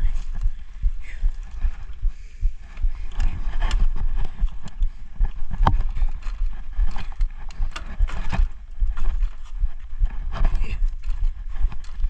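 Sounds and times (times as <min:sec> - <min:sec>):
footsteps on dirt and debris: 0:00.0 - 0:12.0
low rumbling bumps: 0:00.0 - 0:12.0.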